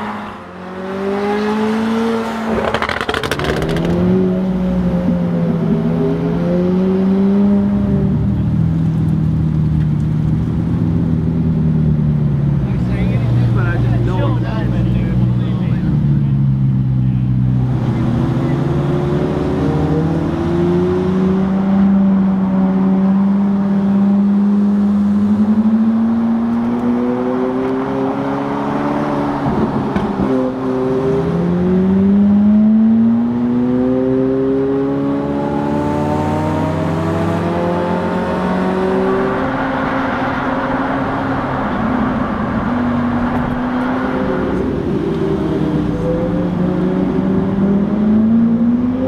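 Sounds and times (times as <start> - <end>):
sports car engine under load: 0.0 - 49.0.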